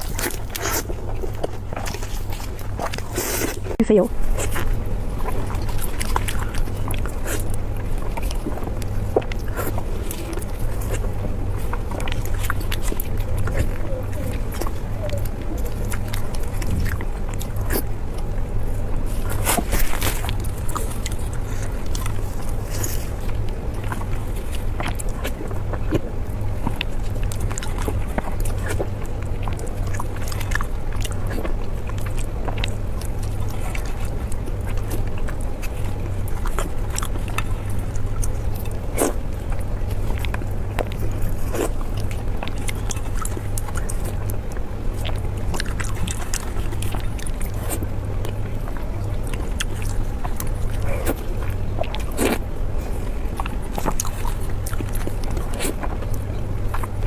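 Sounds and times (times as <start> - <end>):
person chewing crisp food: 0.0 - 57.0
steady low hum: 0.0 - 57.0.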